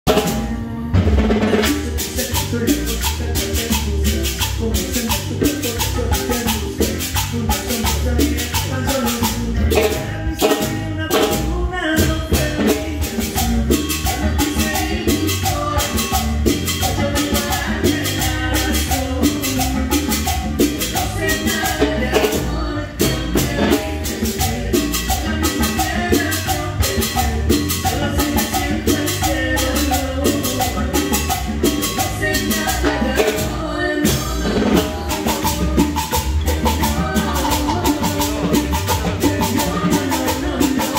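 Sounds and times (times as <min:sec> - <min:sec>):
live cumbia band music: 0:00.0 - 0:40.9.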